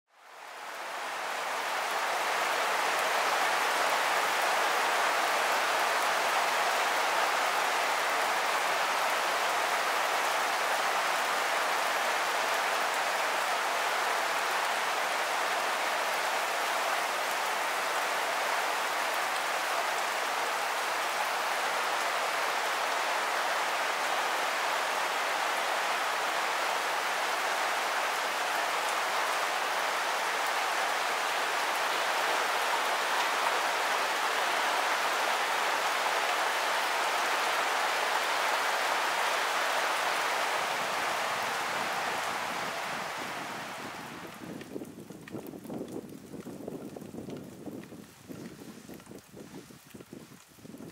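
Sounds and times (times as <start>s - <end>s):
steady rain falling: 0.1s - 50.9s.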